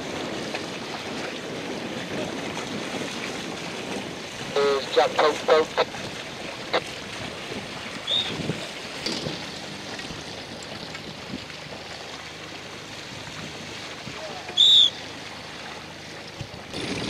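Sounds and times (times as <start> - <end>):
sea water splashing around a boat: 0.0 - 17.0
wind: 0.0 - 17.0.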